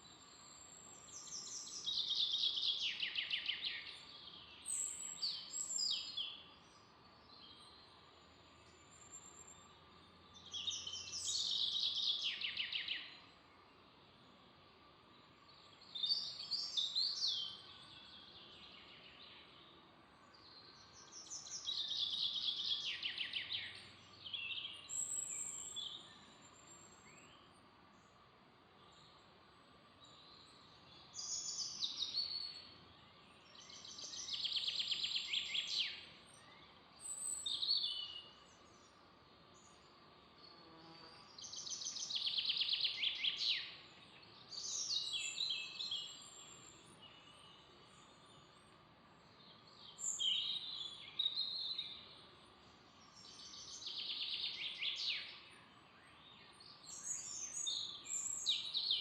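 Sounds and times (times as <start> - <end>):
faint forest background hiss: 0.0 - 59.0.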